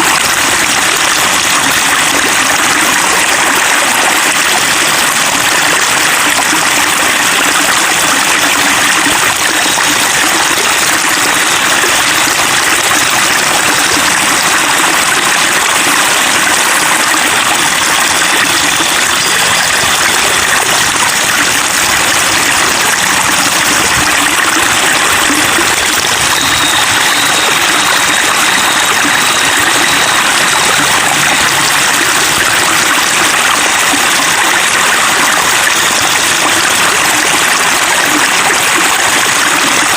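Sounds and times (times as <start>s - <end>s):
running water babbling: 0.0s - 39.9s.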